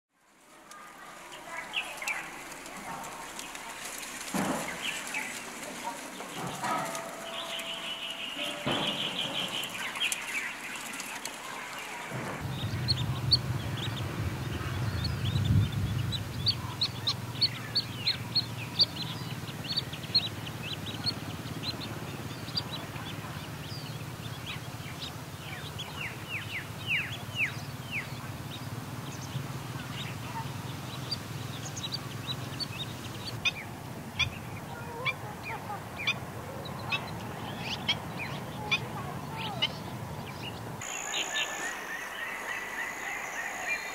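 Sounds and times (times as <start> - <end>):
wading birds calling: 0.5 - 43.9.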